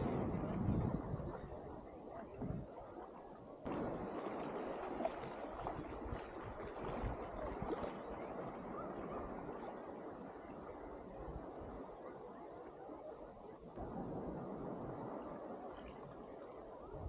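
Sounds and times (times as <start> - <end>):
water splashing around swimmer: 0.0 - 17.0.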